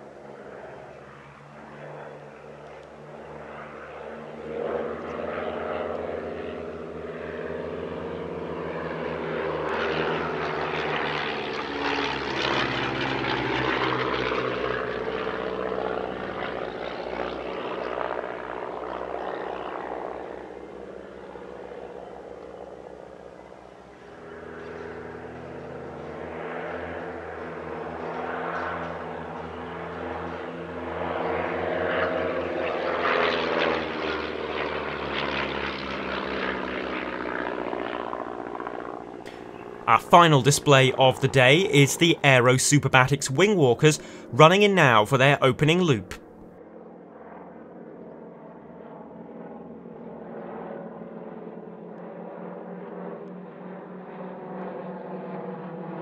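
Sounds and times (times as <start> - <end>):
propeller aircraft flying past: 0.0 - 42.5, 46.2 - 56.0.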